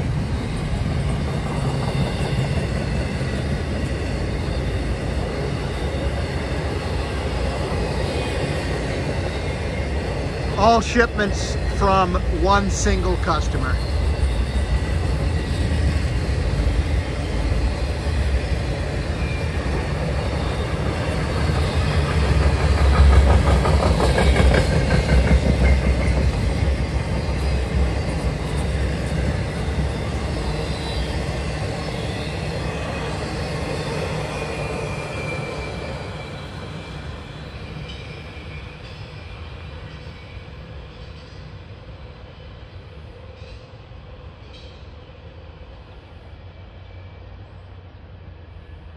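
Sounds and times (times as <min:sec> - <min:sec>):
freight train rumbling past: 0:00.0 - 0:48.9.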